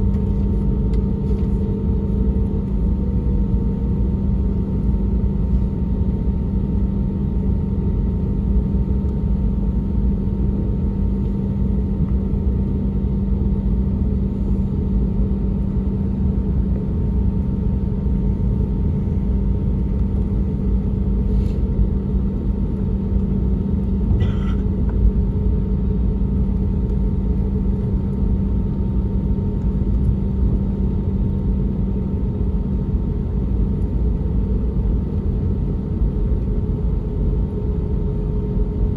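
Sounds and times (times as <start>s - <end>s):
airplane cabin rumble: 0.0s - 38.9s
constant low hum: 0.0s - 38.9s.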